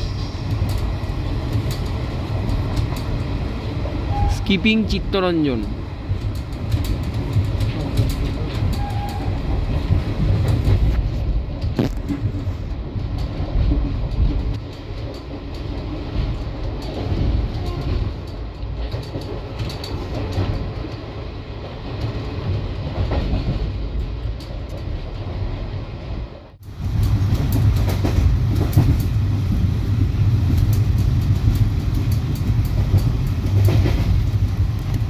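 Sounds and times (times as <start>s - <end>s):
wheels clacking on track: 0.0s - 25.2s, 26.6s - 35.0s
train low rumble: 0.0s - 35.0s.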